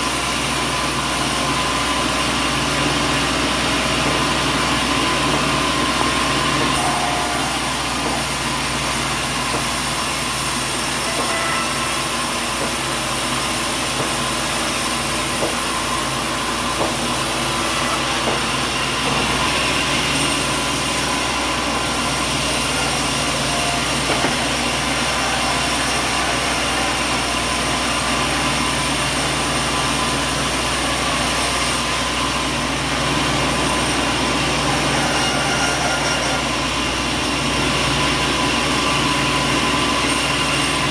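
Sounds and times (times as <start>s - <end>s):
sawmill machinery hum and hiss: 0.0s - 40.9s.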